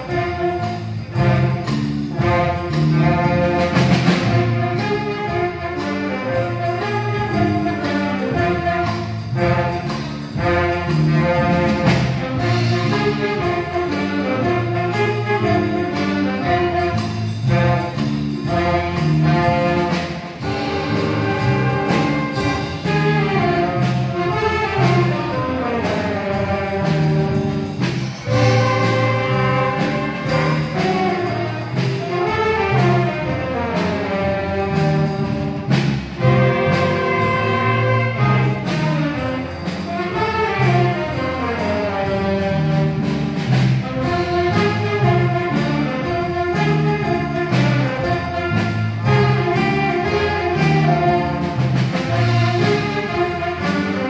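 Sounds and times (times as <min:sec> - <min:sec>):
concert band playing: 0:00.0 - 0:54.0
repeating low riff: 0:00.0 - 0:54.0.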